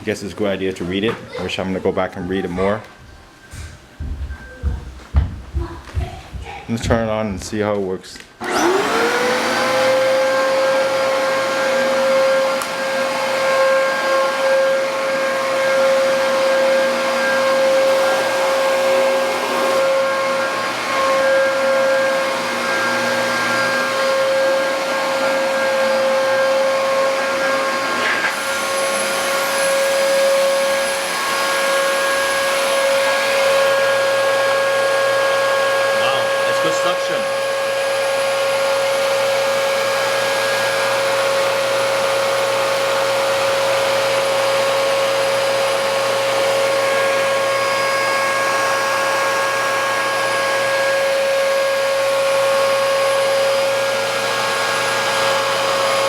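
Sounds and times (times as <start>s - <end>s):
vacuum cleaner running: 2.5s - 7.1s, 8.4s - 56.0s.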